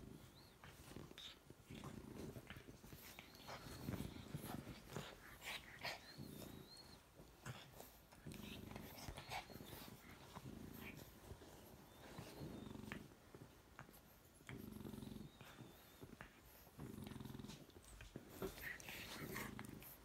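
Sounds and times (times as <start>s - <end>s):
puppies growling low: 0.0s - 13.2s, 14.4s - 20.0s.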